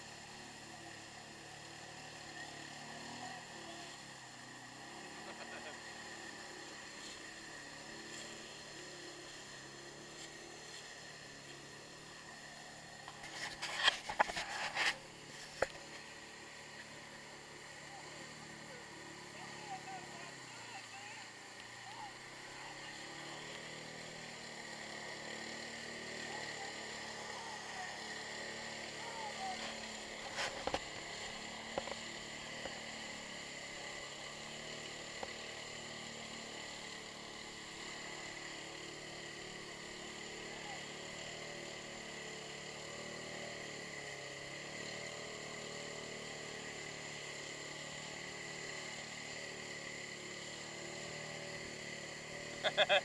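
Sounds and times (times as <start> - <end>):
quad bike engine under load: 0.0 - 53.0
tyres churning through mud: 0.0 - 53.0.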